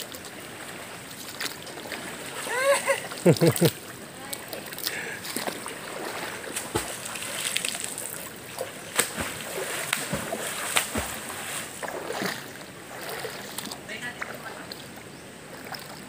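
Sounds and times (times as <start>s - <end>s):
river water splashing: 0.0s - 16.0s.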